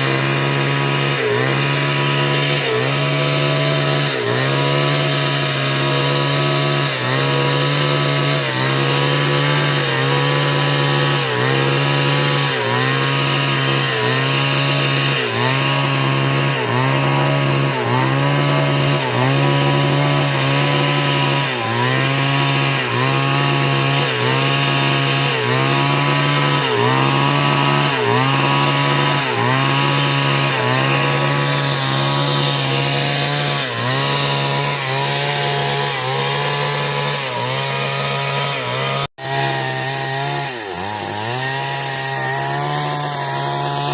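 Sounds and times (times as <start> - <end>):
chainsaw cutting: 0.0 - 43.9.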